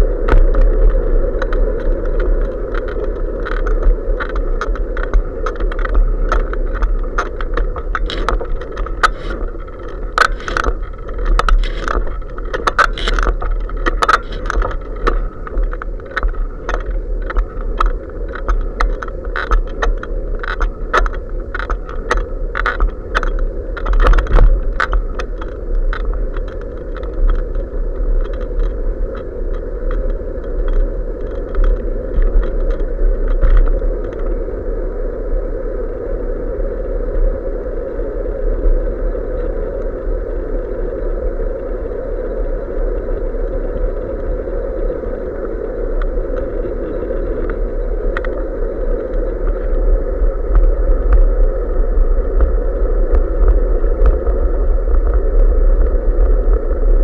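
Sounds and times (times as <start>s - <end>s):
road and wind rumble: 0.0s - 57.0s.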